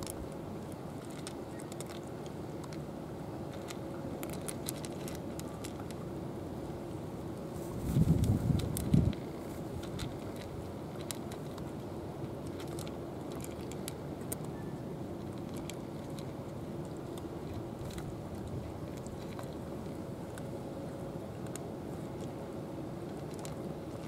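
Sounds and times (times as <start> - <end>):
cats crunching dry kibble: 0.0 - 24.0
low background rumble: 0.0 - 24.0.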